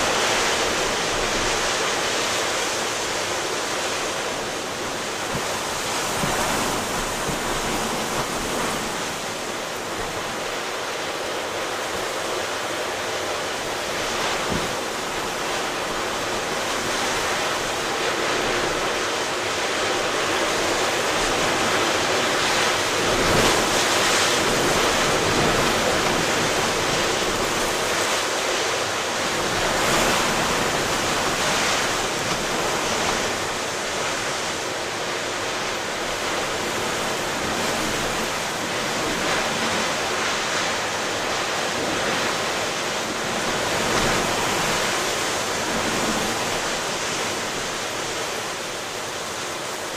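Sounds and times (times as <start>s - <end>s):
rough waves breaking: 0.0s - 49.9s
strong wind: 0.0s - 49.9s.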